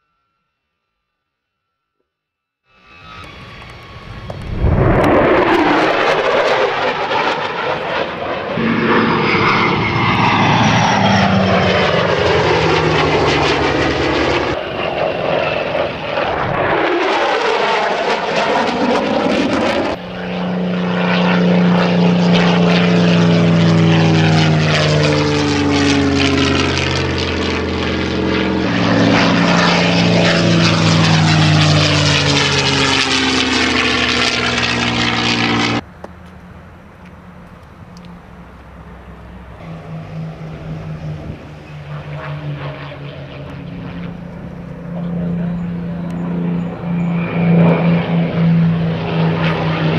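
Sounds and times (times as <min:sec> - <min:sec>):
propeller planes flying past: 0:02.7 - 0:49.9.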